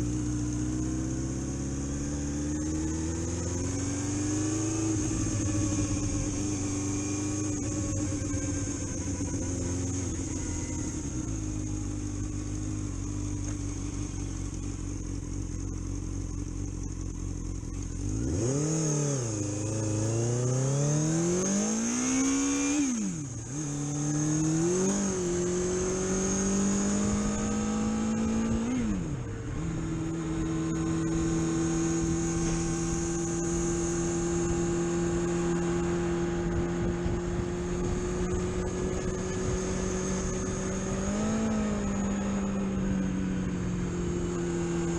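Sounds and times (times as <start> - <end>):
high-pitched whine: 0.0 - 44.9
vehicle engine revving: 0.0 - 44.9.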